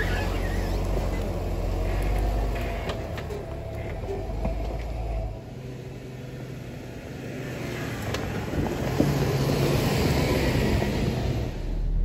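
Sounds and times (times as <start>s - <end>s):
off-road engine rumbling: 0.0s - 12.0s.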